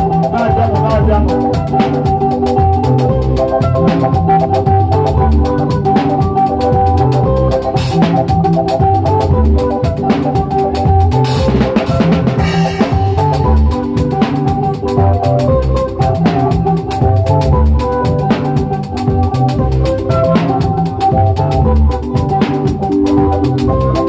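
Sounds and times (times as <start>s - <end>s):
drum kit beat: 0.0s - 24.0s
live band music: 0.0s - 24.0s.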